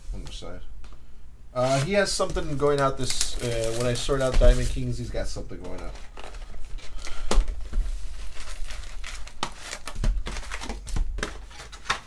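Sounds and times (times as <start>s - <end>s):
plastic wrap crinkling and tearing: 1.6s - 12.0s.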